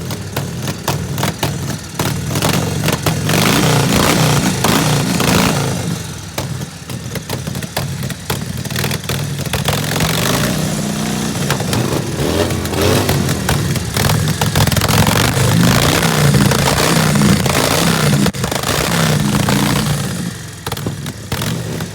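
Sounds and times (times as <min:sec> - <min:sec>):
engine throttle blips: 0:00.0 - 0:21.9
motorcycle engine fast idle: 0:00.0 - 0:21.9.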